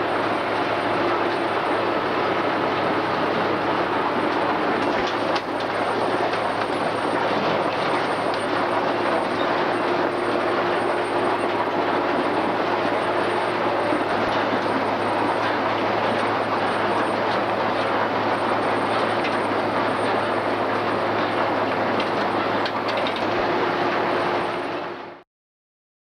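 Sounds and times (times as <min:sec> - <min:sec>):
harvester machinery running: 0:00.0 - 0:25.2
tractor diesel engine humming: 0:00.0 - 0:25.2.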